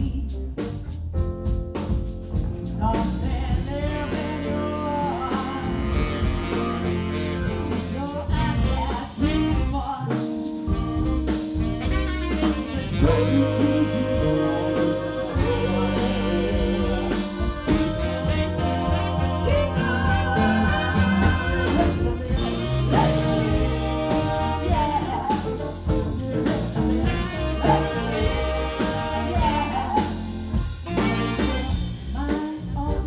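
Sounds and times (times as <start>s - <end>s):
live band playing: 0.0s - 33.0s
woman backing vocals: 2.8s - 11.2s, 12.3s - 33.0s
woman singing lead: 2.8s - 11.6s, 12.2s - 33.0s.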